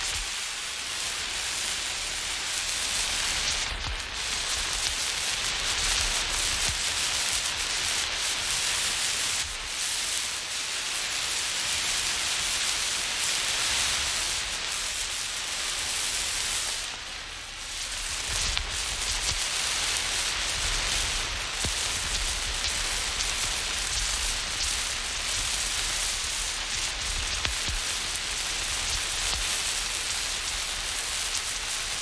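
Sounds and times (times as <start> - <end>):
road flare hissing: 0.0 - 32.0.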